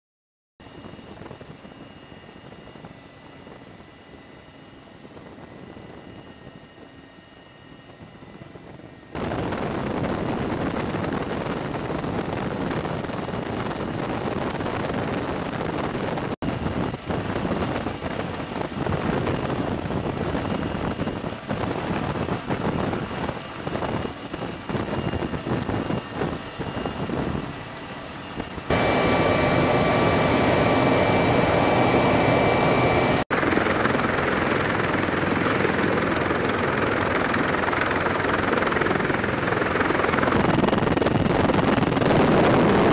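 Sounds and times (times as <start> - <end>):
helicopter rotor noise: 0.6 - 42.9
high turbine whine: 0.6 - 42.9.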